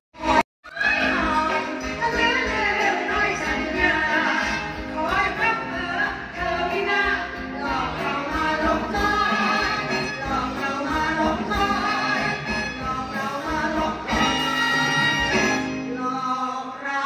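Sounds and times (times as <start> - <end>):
two women singing: 0.2 - 17.0.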